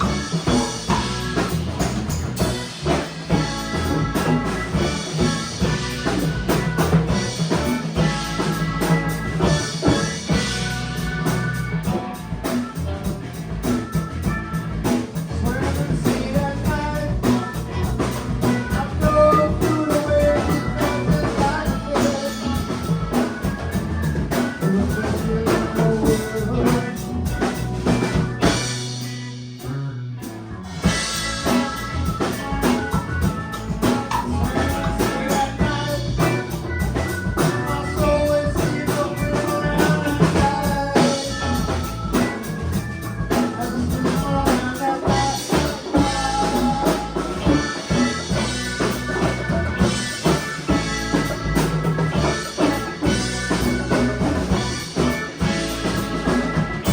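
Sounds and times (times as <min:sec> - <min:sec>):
drum kit beat: 0:00.0 - 0:56.9
rock band playing: 0:00.0 - 0:56.9.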